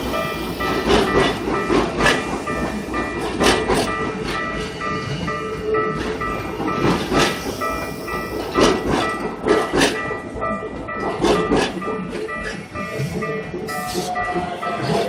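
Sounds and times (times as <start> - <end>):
train wheels knocking on rail joints: 0.0 - 12.9
crossing warning bell: 0.0 - 15.0.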